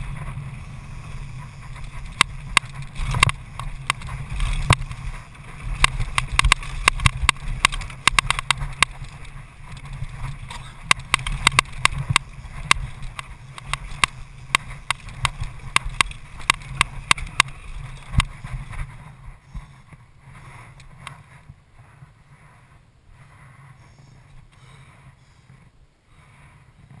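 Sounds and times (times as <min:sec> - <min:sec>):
bike rattling over bumps: 0:00.0 - 0:27.0
bike tyre rumble: 0:00.0 - 0:27.0
wind on microphone: 0:00.0 - 0:27.0.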